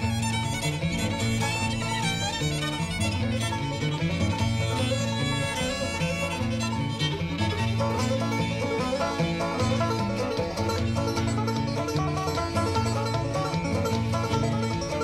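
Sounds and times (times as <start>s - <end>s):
banjo: 0.0s - 15.0s
fiddle: 0.0s - 15.0s.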